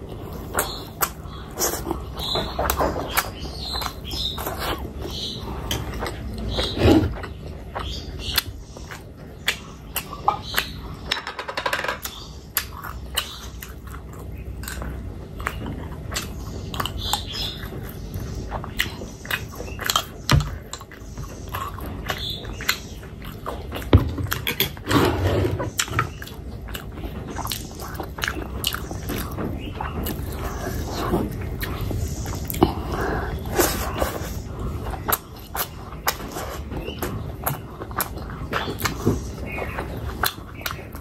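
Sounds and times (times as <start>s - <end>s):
person chewing with mouth smacks: 0.0s - 10.9s, 12.0s - 24.9s, 25.6s - 41.0s.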